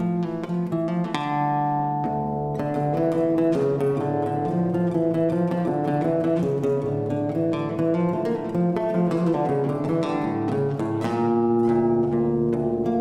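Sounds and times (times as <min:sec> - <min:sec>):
acoustic guitar plucking: 0:00.0 - 0:13.0.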